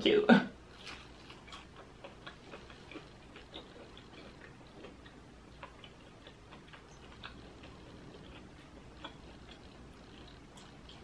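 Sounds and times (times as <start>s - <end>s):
soft chewing mouth clicks: 0.8s - 11.0s.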